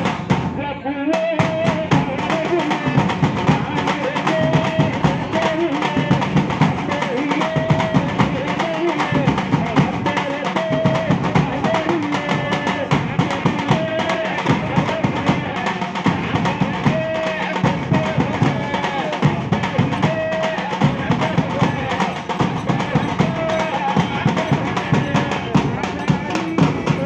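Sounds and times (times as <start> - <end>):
barrel drums playing fast rhythm: 0.0 - 27.0
bass drum: 0.0 - 27.0.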